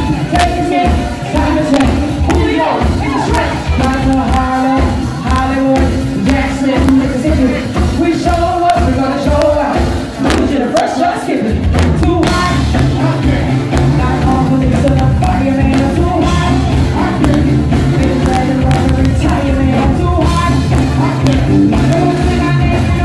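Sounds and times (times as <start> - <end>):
live band playing: 0.0 - 23.0
person singing: 0.0 - 23.0.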